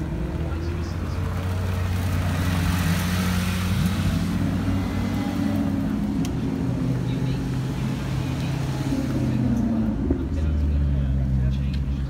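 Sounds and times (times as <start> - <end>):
sports car engines at low revs: 0.0 - 12.0.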